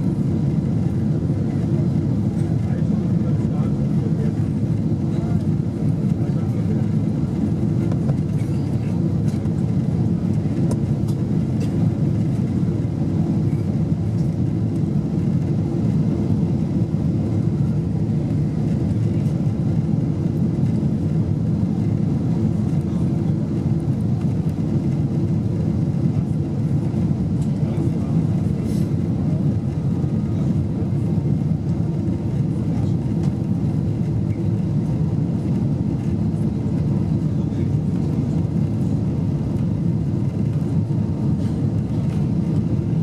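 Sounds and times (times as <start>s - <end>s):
airplane cabin roar: 0.0s - 43.0s.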